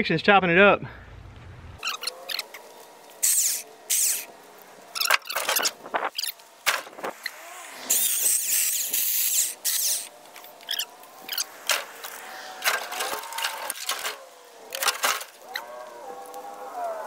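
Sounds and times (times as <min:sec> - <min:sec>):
electric chainsaw whining: 0:01.8 - 0:17.0.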